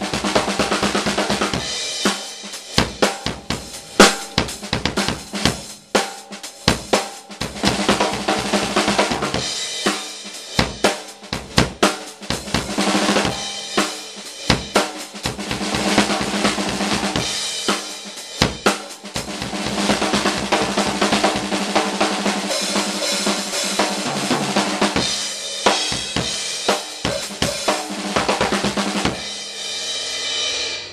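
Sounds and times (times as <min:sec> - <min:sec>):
crash cymbals and hi-hat: 0:00.0 - 0:30.9
drum kit played fast: 0:00.0 - 0:30.9.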